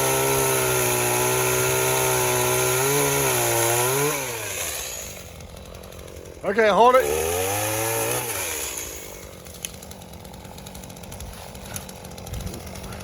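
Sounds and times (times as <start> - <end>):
chainsaw engine idling: 0.0 - 13.0.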